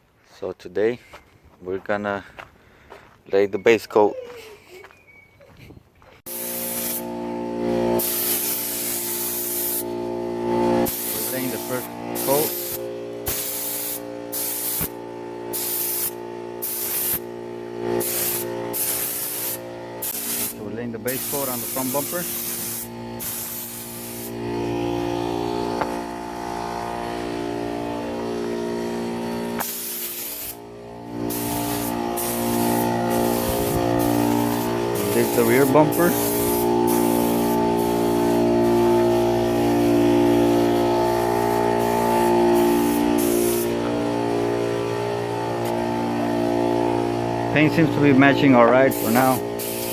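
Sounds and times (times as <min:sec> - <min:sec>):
air compressor running: 0:06.2 - 0:49.9
spray gun hissing: 0:06.3 - 0:26.4, 0:27.0 - 0:49.9
steady hum: 0:06.3 - 0:49.9.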